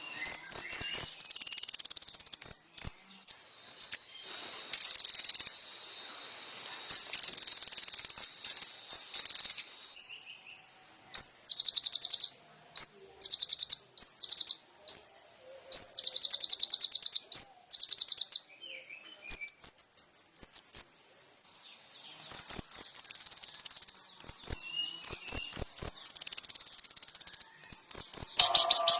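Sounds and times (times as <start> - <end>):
bird trills and chirps: 0.0 - 28.9.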